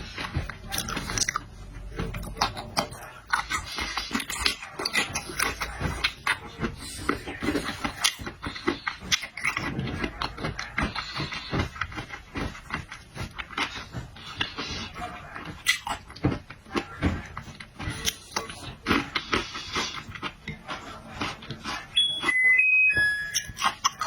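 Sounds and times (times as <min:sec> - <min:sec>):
chewing with wet mouth clicks: 0:00.0 - 0:22.5, 0:23.3 - 0:24.0.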